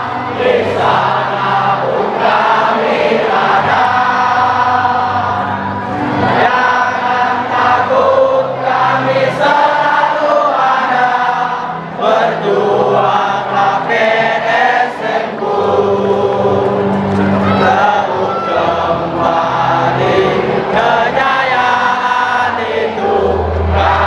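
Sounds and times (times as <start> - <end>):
stadium crowd singing chant: 0.0 - 24.0.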